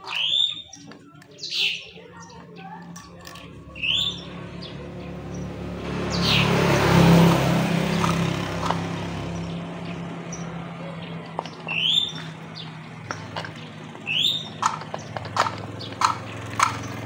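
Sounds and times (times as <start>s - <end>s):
small bird chirping: 0.0s - 6.6s, 7.4s - 17.0s
vehicle engine humming: 0.0s - 17.0s.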